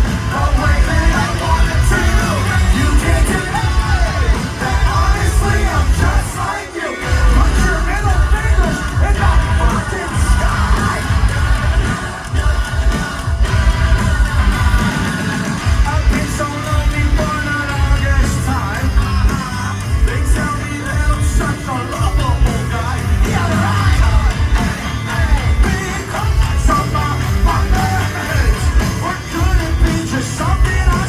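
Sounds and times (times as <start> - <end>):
heavy rock band playing: 0.0 - 31.0
pounding drums: 0.0 - 31.0.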